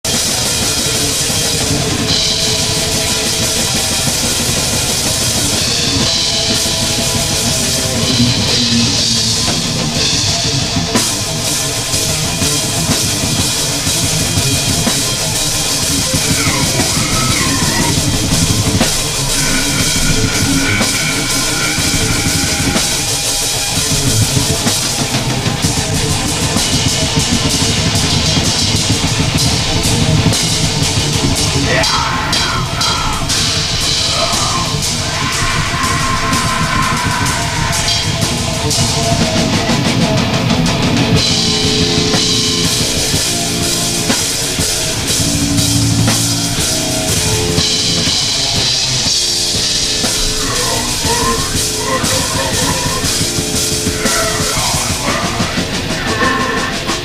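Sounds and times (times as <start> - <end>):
drum kit played hard: 0.0 - 57.0
heavy metal jam: 0.0 - 57.0.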